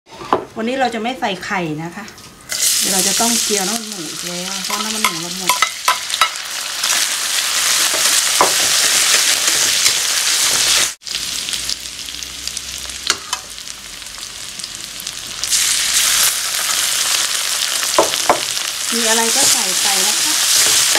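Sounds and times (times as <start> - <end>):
garlic sizzling in oil: 2.4 - 20.9.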